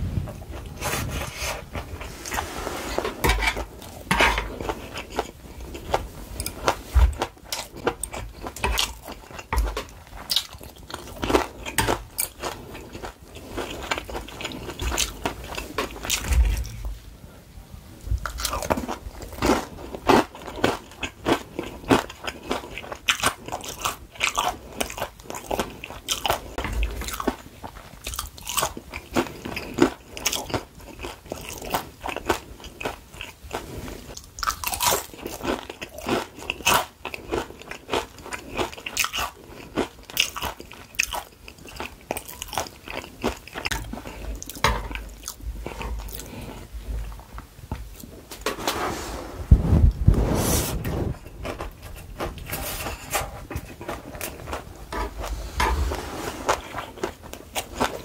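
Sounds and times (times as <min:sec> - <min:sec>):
crunchy chewing of fried food: 0:00.0 - 0:17.1, 0:18.1 - 0:48.4, 0:51.1 - 0:58.0.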